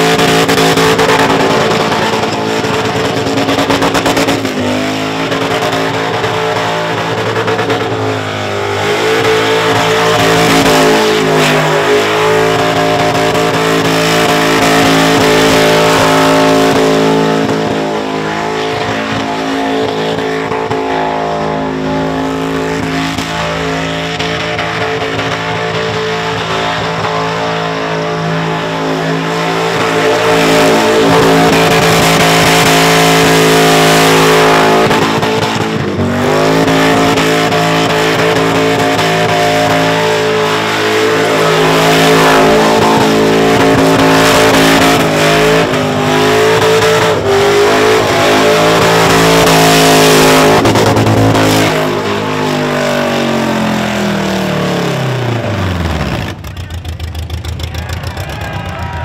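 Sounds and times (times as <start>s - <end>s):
car engine at high revs: 0.0s - 58.7s.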